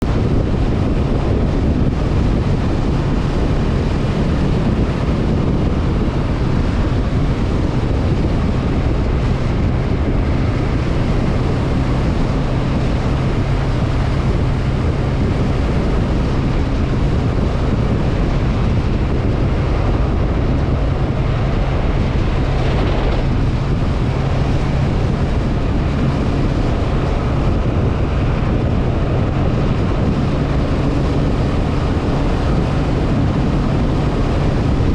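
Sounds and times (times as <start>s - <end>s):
motorcycle engine running: 0.0s - 34.9s
wind rushing over microphone: 0.0s - 34.9s.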